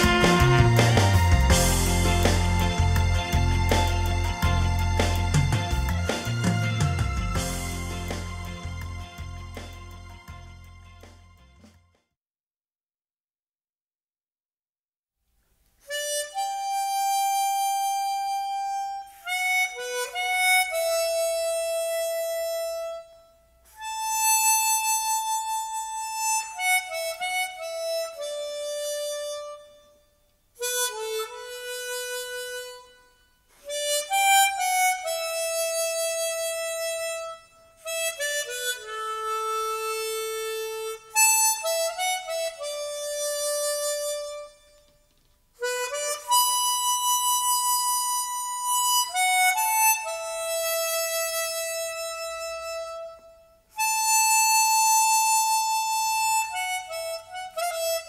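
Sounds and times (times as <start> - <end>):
saxophone ballad melody: 0.0 - 11.6, 15.9 - 58.0.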